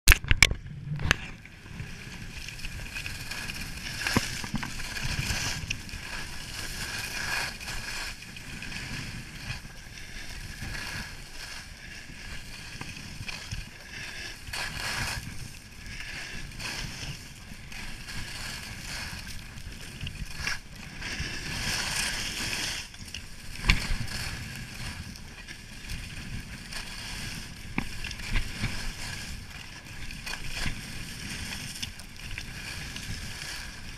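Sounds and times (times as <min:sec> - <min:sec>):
skis scraping on snow: 0:01.6 - 0:33.9.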